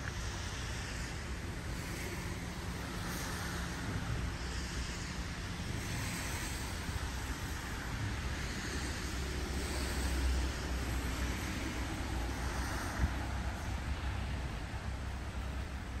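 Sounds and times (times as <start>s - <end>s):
traffic rushing and rumbling: 0.0s - 16.0s.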